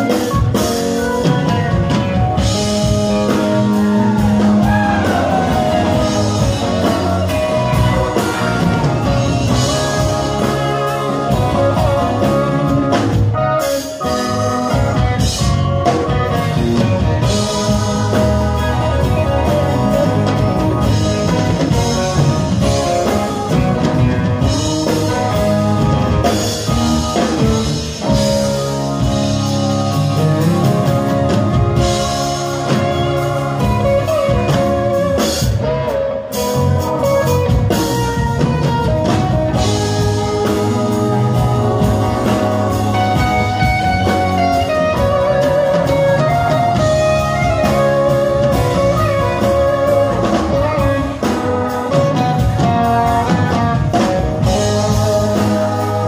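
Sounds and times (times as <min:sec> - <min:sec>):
rock band playing instrumental: 0:00.0 - 0:56.0.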